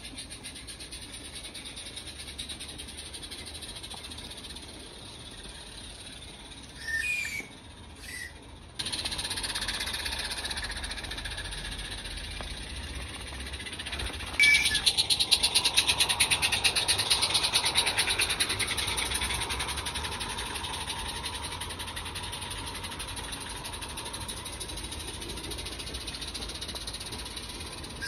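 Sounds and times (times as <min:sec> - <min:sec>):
steam locomotive chuffing: 0:00.0 - 0:28.0
carriages rolling: 0:00.1 - 0:28.0.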